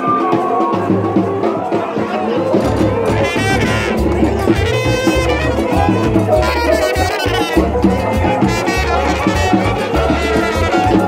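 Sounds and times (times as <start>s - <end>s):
brass and drum music: 0.0s - 11.0s.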